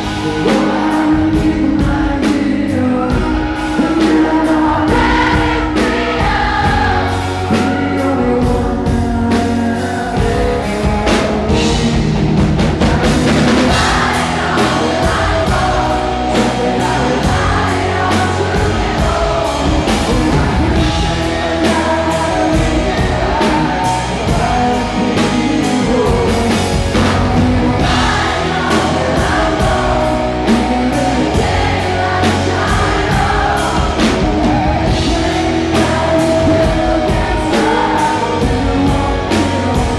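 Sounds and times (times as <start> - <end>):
man singing: 0.0 - 39.9
rock band playing: 0.0 - 39.9.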